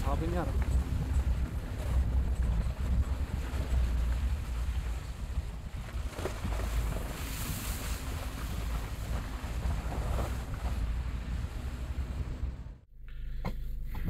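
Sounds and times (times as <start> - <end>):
wind buffeting microphone: 0.0 - 12.7
car engine and tyres rumbling: 0.0 - 14.0.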